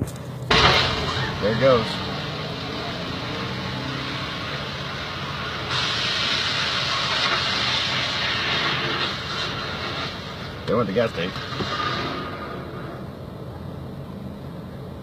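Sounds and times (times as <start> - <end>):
car fire rushing hiss: 0.4 - 14.8.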